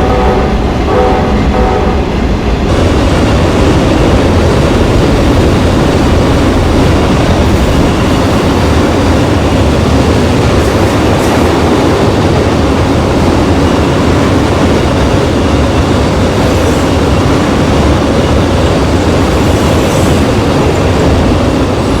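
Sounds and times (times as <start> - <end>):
freight train wheels rumbling on rail: 0.0 - 22.0.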